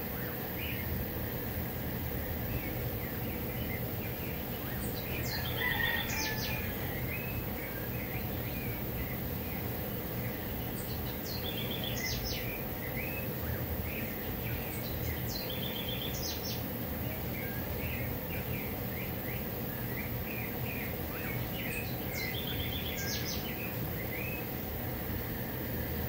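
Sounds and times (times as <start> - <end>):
bird singing: 0.0 - 1.0, 2.1 - 24.6
low background noise: 0.0 - 26.0.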